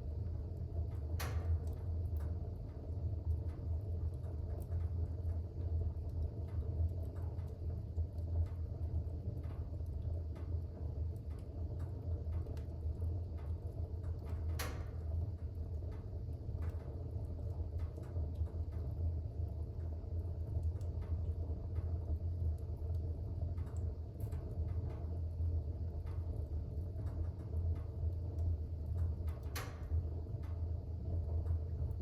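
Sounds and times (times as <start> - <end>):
fire crackling: 0.0 - 32.0
fire rumbling in a fireplace: 0.0 - 32.0.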